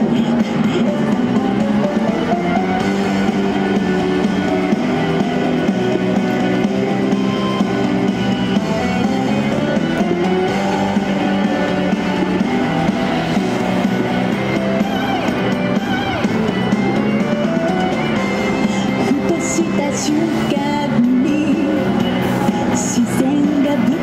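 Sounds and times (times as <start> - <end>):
pop-rock instrumental music: 0.0 - 24.0.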